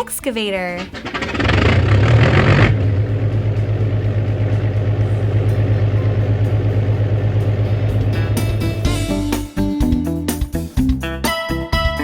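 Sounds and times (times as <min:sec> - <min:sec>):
excavator diesel engine idling: 0:00.0 - 0:10.8.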